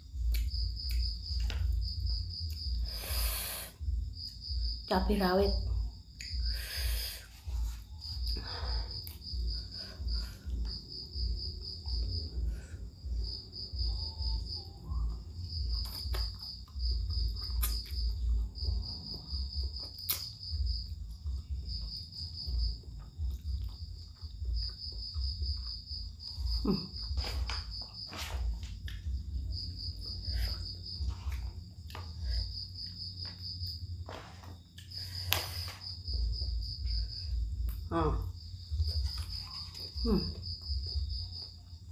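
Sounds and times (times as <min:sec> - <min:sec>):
cricket chirping: 0:00.0 - 0:41.9.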